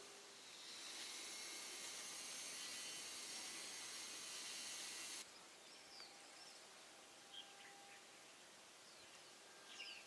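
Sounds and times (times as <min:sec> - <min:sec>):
quiet forest background: 0:00.0 - 0:10.0.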